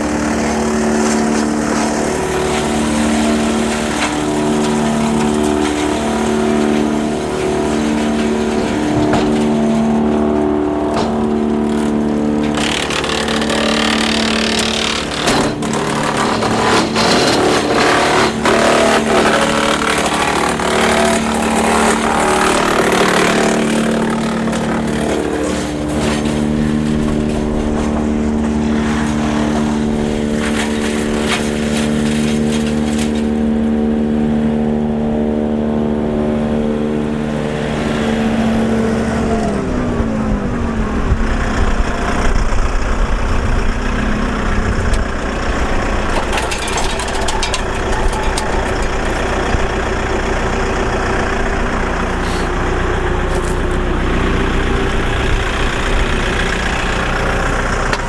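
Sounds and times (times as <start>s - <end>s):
branches crackling and snapping: 0.0s - 34.3s, 37.2s - 58.0s
wood chipper running: 0.0s - 58.0s.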